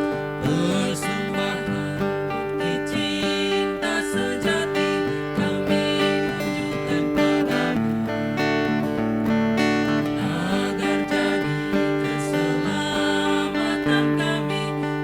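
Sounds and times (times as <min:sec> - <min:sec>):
acoustic guitar strumming hymn: 0:00.0 - 0:15.0.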